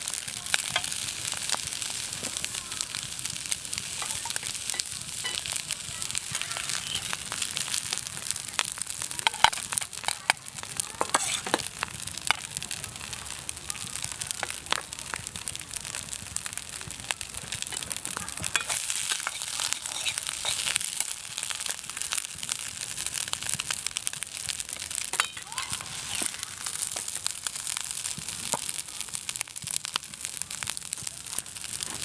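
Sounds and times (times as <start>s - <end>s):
meat sizzling on a grill: 0.0s - 32.0s
wood fire crackling and popping: 0.0s - 32.0s.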